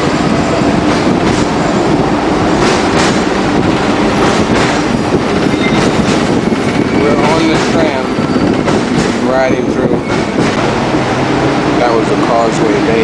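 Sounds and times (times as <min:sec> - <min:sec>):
tram rumbling and rattling: 0:00.0 - 0:13.0.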